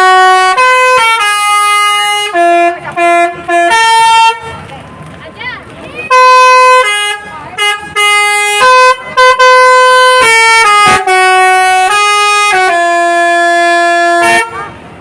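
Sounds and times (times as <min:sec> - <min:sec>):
bus horn playing melody: 0:00.0 - 0:04.6, 0:06.1 - 0:14.9.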